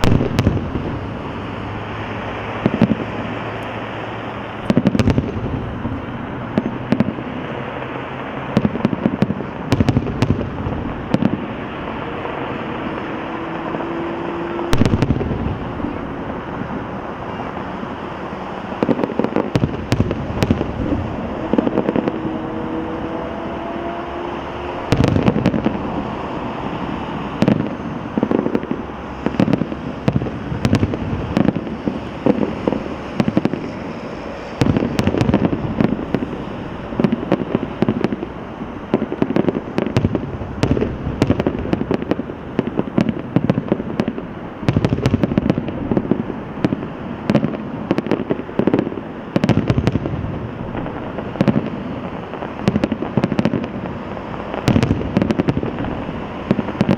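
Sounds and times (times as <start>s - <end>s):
firework shells bursting: 0.0s - 56.9s
fireworks crackle and rumble: 0.0s - 56.9s.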